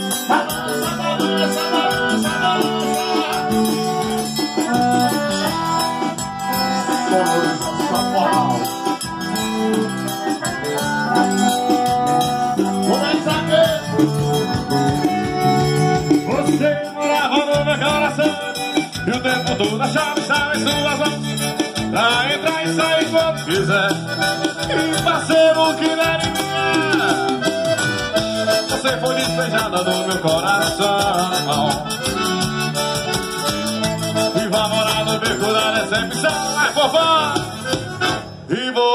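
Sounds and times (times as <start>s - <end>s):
electric guitar: 0.0s - 38.5s
live band music: 0.0s - 38.6s
accordion: 0.0s - 38.9s.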